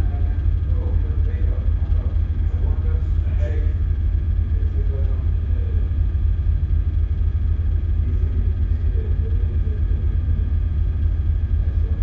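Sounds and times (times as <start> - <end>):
faint machinery hum: 0.0 - 12.0
ship engine rumble: 0.0 - 12.0.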